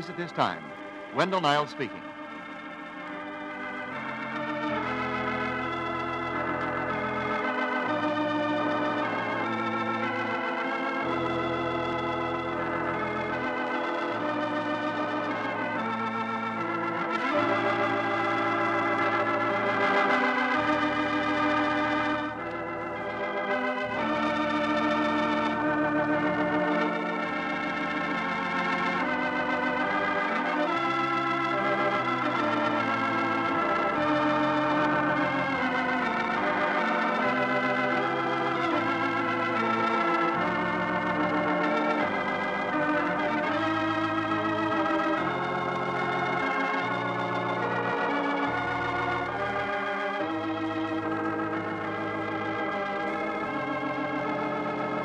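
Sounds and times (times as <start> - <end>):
organ music with sustained chords: 0.0 - 55.0.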